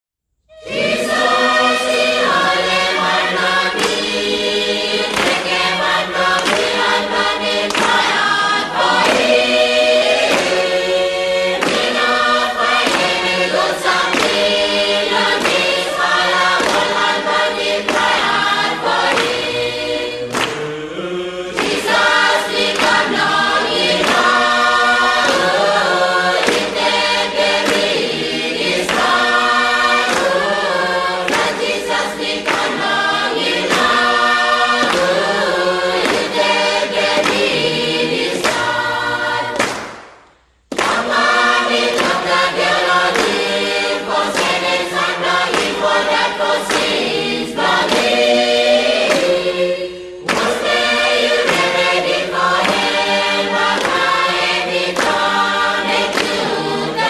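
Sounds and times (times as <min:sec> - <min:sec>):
choir singing: 0:00.5 - 0:40.0, 0:40.7 - 0:57.0.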